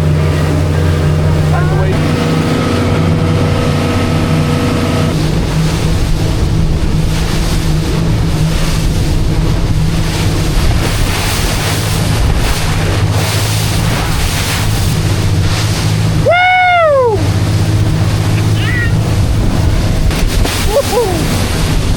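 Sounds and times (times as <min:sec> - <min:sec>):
motorboat engine running: 0:00.0 - 0:21.9
water rushing past hull: 0:00.0 - 0:21.9
wind buffeting microphone: 0:00.0 - 0:21.9.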